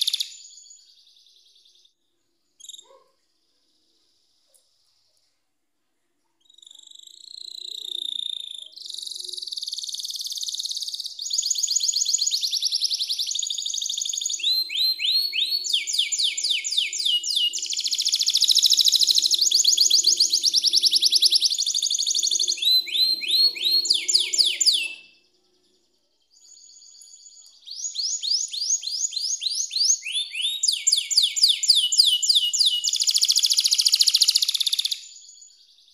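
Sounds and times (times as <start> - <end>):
canary singing trills: 0.0 - 1.9, 2.6 - 3.2, 6.3 - 35.9.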